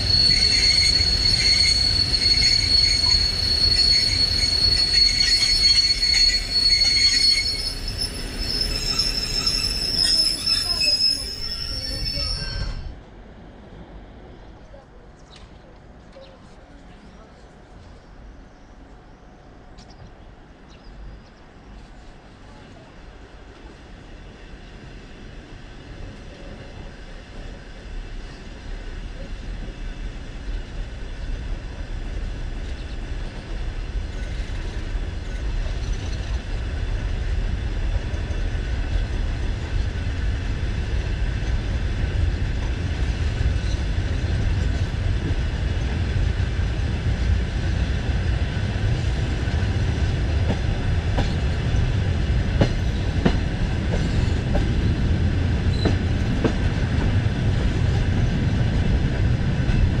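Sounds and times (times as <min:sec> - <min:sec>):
train carriage rumbling on track: 0:00.0 - 1:00.0.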